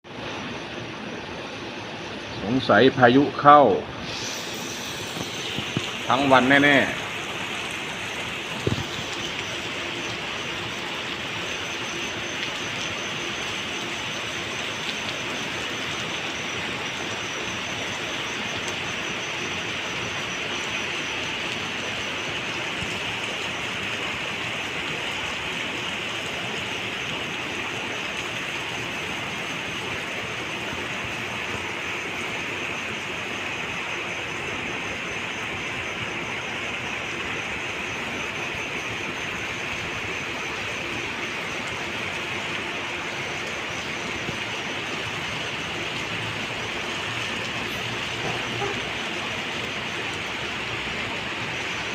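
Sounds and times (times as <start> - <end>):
rain falling steadily: 0.0 - 51.9.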